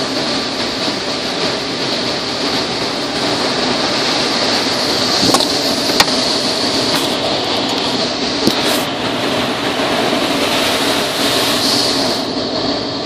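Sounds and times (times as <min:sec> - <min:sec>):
water spray drumming on car: 0:00.0 - 0:13.0.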